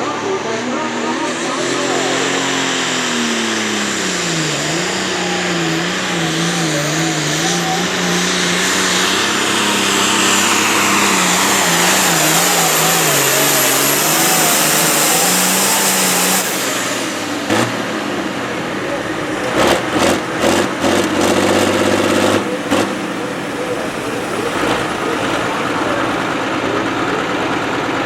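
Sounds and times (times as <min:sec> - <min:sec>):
diesel tractor engine at full power: 0:00.0 - 0:28.0
turbo whine: 0:00.0 - 0:28.0.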